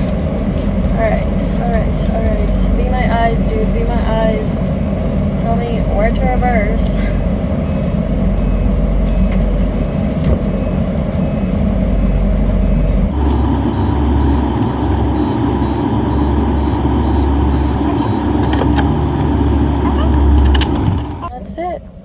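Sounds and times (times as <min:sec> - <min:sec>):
backup alarm beeping: 0:00.0 - 0:22.0
truck engine running: 0:00.0 - 0:22.0.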